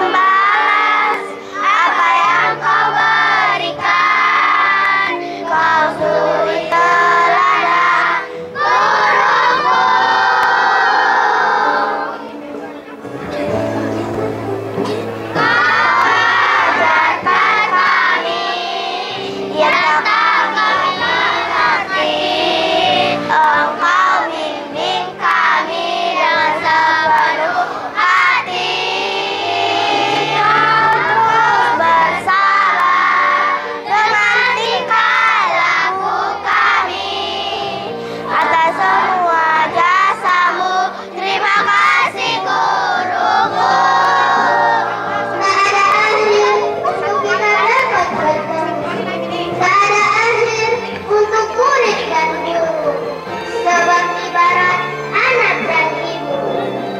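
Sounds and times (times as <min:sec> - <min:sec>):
backing music track: 0:00.0 - 0:56.9
children singing in unison: 0:00.0 - 0:56.9.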